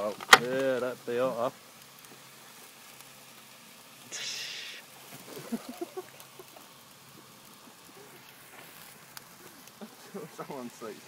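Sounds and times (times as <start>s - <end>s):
bacon sizzling on hot metal: 0.0s - 11.0s.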